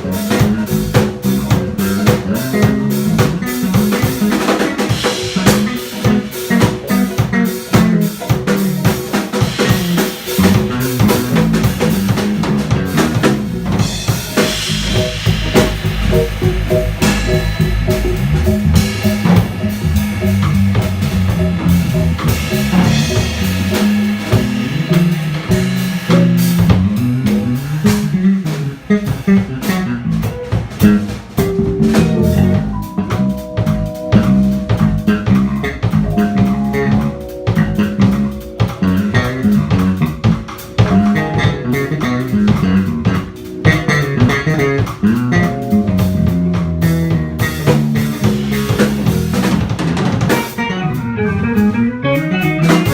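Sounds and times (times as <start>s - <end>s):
drum kit cymbals and drums: 0.0s - 52.9s
electric guitar: 0.0s - 52.9s
piano: 0.0s - 52.9s
walking bass line: 0.0s - 52.9s.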